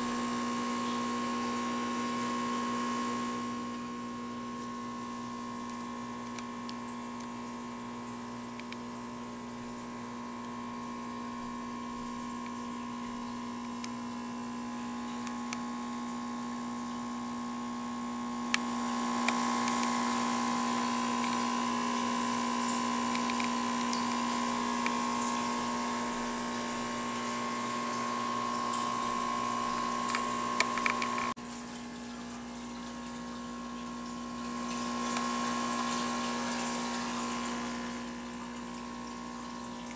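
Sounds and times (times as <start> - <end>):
electric hum of aquarium equipment: 0.0 - 39.9
water from tank pump: 0.0 - 39.9.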